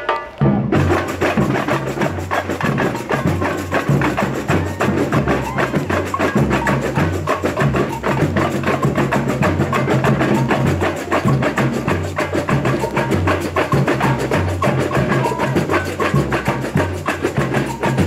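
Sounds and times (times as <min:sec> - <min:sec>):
deep bass-drum beats: 0:00.0 - 0:18.0
samba percussion band: 0:00.0 - 0:18.0.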